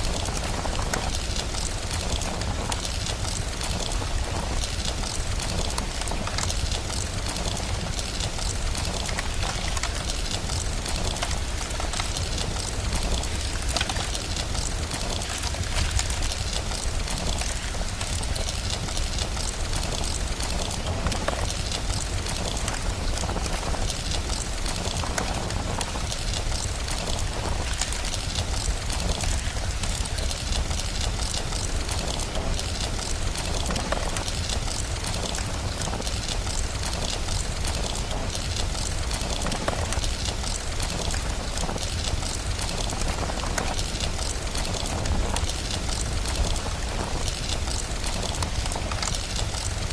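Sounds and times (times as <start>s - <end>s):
steady rain: 0.0s - 49.9s
wood fire crackling: 0.0s - 49.9s.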